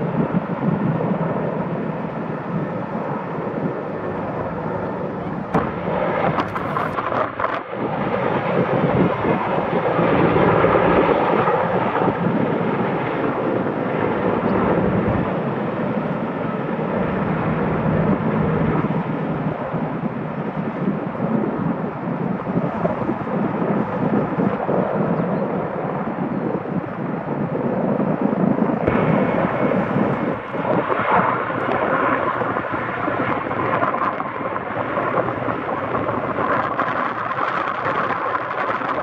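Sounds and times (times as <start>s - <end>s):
helicopter rotor beating: 0.0s - 39.0s.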